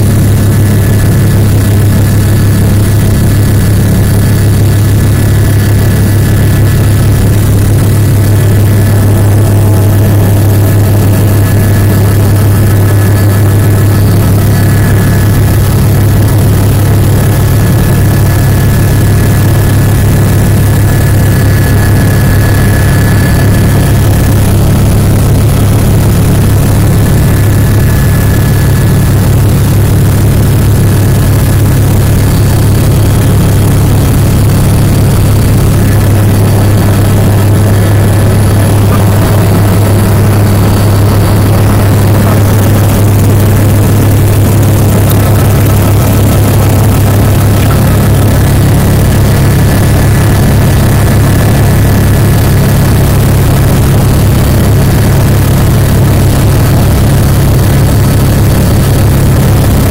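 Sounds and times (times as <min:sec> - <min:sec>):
faint high whine: 0:00.0 - 0:59.0
helicopter drone from cabin: 0:00.0 - 0:59.9.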